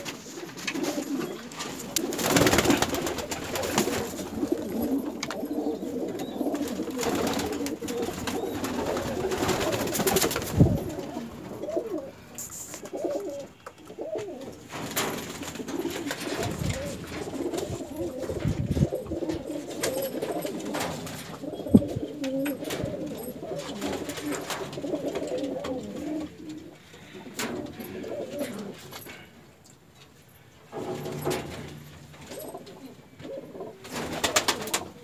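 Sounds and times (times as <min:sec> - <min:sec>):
pigeons cooing: 0:00.0 - 0:29.5, 0:30.7 - 0:35.0.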